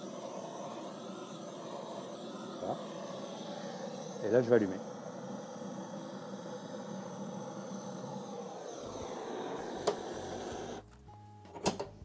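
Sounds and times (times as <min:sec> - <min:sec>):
blowtorch hissing: 0:00.0 - 0:10.8.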